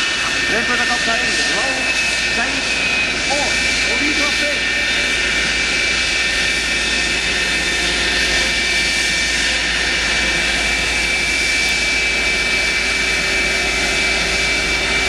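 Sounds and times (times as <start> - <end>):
high-pitched jet whine: 0.0 - 15.0
jet engine rushing: 0.0 - 15.0.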